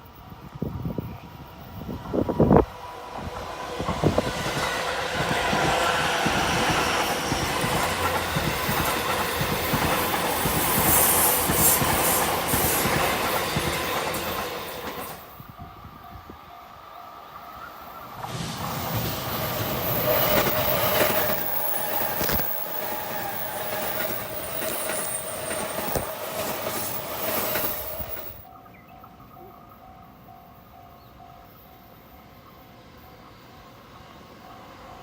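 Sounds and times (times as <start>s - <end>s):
train wheels rolling on rails: 0.0s - 28.5s.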